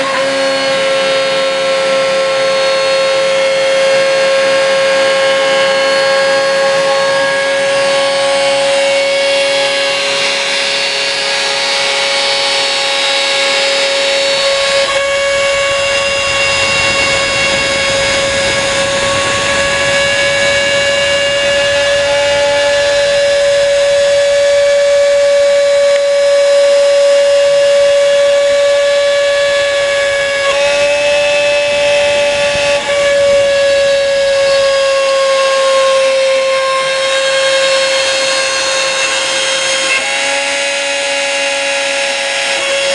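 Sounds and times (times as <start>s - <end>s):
milling machine whine: 0.0s - 42.9s
rushing cutting noise: 0.0s - 42.9s.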